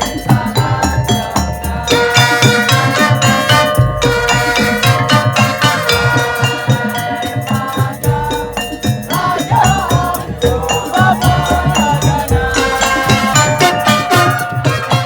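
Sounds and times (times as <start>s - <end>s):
drums and pitched percussion: 0.0s - 15.0s
rattle keeping time: 0.0s - 15.0s
wavering lead melody: 0.0s - 15.0s.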